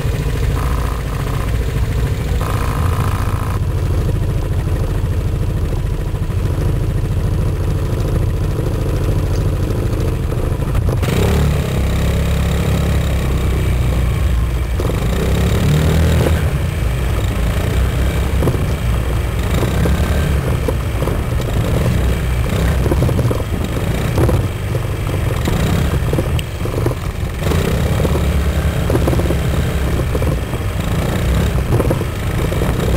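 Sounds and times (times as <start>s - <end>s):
scooter engine running: 0.0s - 32.9s
strange noises from back wheel: 0.0s - 32.9s.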